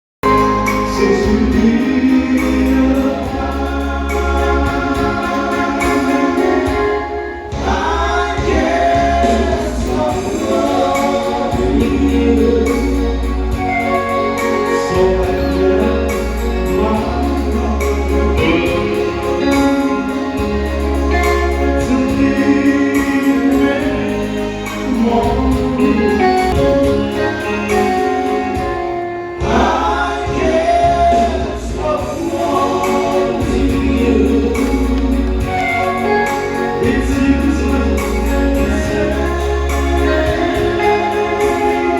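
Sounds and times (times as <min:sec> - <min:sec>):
instrumental backing with bass: 0:00.2 - 0:41.9
person singing: 0:00.2 - 0:41.9.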